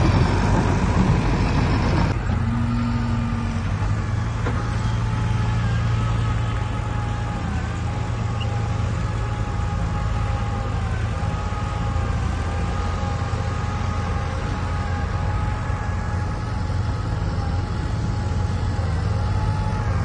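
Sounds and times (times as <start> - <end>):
diesel machinery engine hum: 0.0 - 20.0.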